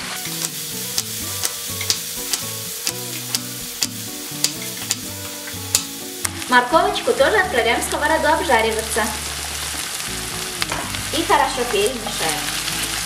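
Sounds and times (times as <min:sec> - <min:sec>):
background music: 0:00.0 - 0:13.0
steady hiss: 0:00.0 - 0:13.0.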